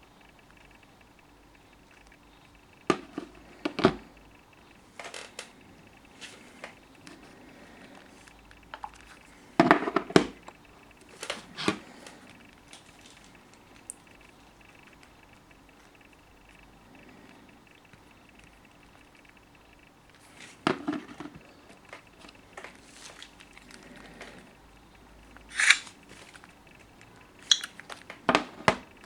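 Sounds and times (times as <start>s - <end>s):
faint steady background noise: 0.0s - 29.0s
scattered knocks and clicks: 0.0s - 29.0s.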